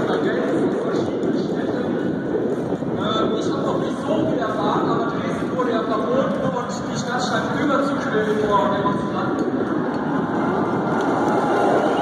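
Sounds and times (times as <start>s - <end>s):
wind blowing: 0.0s - 12.0s.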